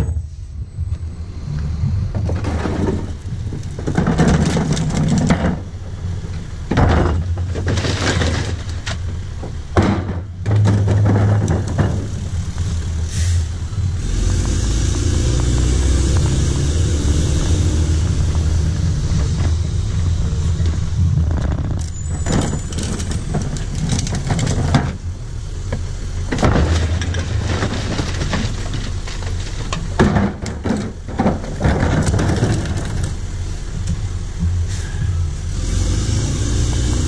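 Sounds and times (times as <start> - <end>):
garbage truck diesel engine: 0.0 - 37.0.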